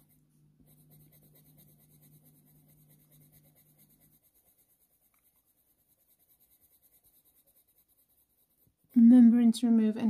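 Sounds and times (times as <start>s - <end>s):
coloured pencil scratching on paper: 0.0s - 9.2s
low steady hum: 0.0s - 10.0s.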